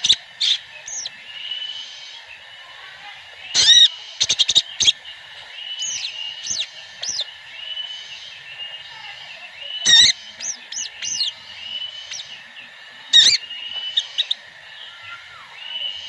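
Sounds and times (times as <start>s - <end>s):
steady high bird trill: 0.0s - 16.0s
sunbirds chirping: 0.0s - 16.0s.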